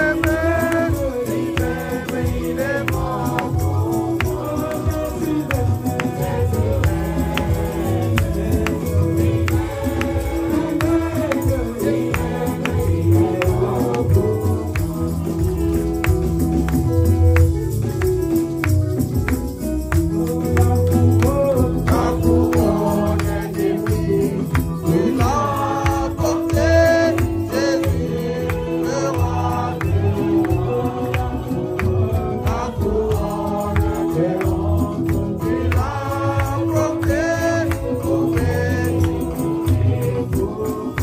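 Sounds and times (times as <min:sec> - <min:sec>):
voices singing together: 0:00.0 - 0:17.2, 0:19.9 - 0:41.0
sustained bass notes: 0:00.0 - 0:40.6
percussion beat: 0:00.0 - 0:41.0.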